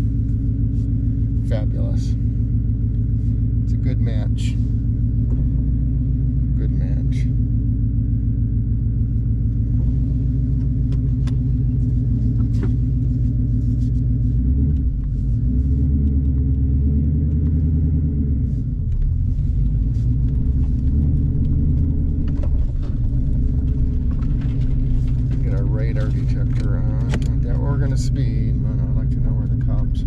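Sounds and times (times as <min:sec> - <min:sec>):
engine deep rumble: 0:00.0 - 0:30.0.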